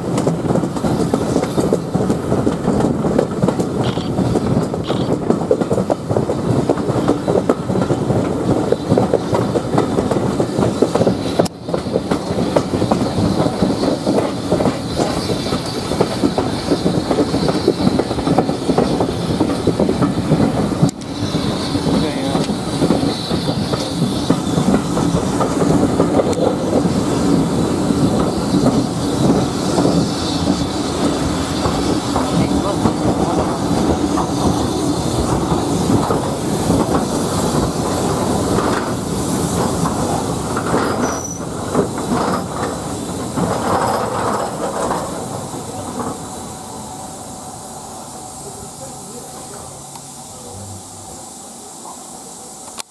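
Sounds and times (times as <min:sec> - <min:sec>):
train wheels clattering over rails: 0:00.0 - 0:51.1
rushing air: 0:00.0 - 0:52.9.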